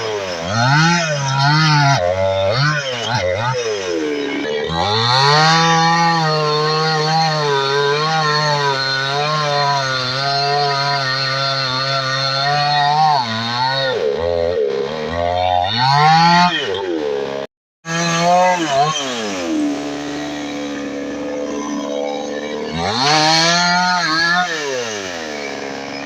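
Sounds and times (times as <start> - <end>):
chainsaw engine revving: 0.0 - 26.0.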